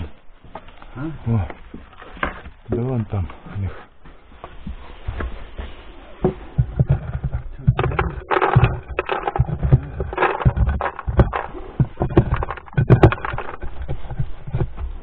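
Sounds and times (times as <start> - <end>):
thumps and rustling in a shed: 1.6 - 15.0.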